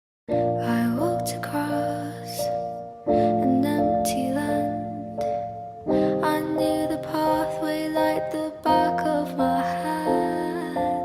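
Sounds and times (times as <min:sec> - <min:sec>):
soft gentle background music: 0:00.3 - 0:11.0.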